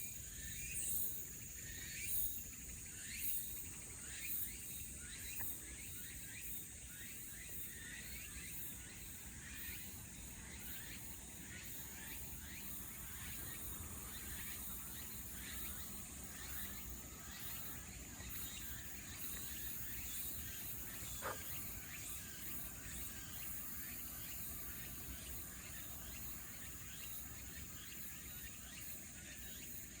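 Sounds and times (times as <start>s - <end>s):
insects droning: 0.0s - 30.0s
short insect chirps: 0.2s - 30.0s.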